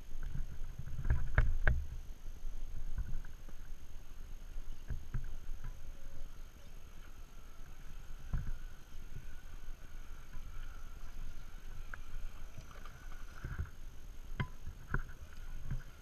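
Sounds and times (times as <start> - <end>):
faint electric motor whine: 0.0 - 16.0.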